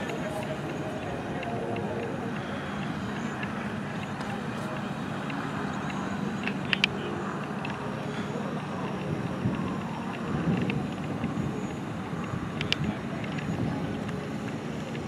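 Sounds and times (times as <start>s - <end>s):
distant road traffic: 0.0s - 15.0s
sharp clicks: 0.0s - 15.0s
wind on microphone: 0.0s - 15.0s.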